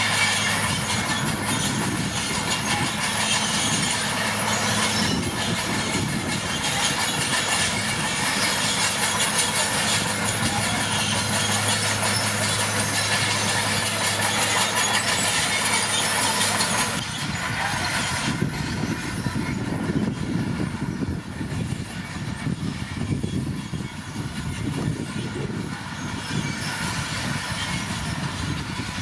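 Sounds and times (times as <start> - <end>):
crawler tracks moving: 0.0 - 29.0
dozer diesel engine running: 0.0 - 29.0.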